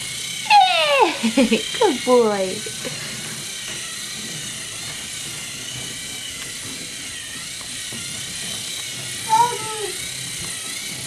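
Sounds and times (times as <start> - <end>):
toy train motor whirring: 0.0 - 11.0.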